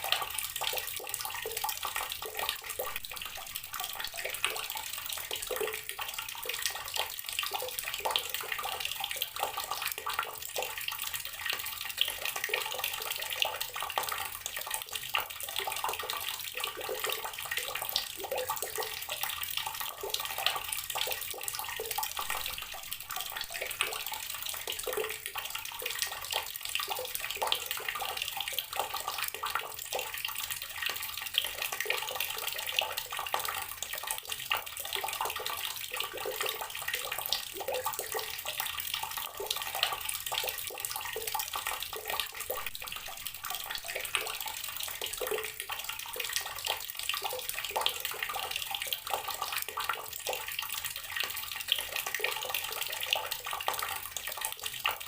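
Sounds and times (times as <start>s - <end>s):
tap water pouring into water: 0.0s - 55.0s.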